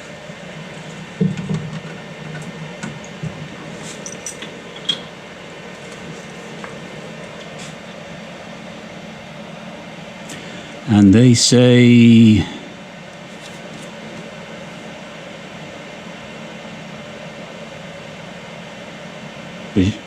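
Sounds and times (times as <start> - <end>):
cooling fans whirring: 0.0 - 20.0.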